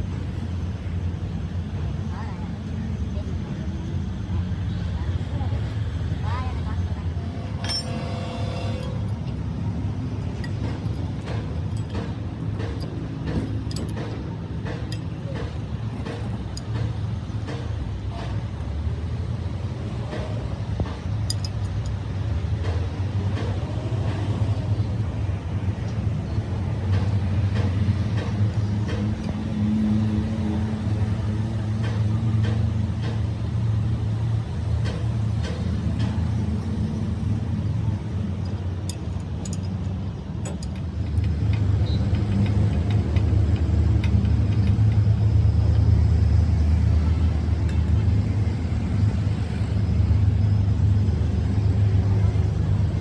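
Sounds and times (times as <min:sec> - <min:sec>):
low engine rumble: 0:00.0 - 0:53.0.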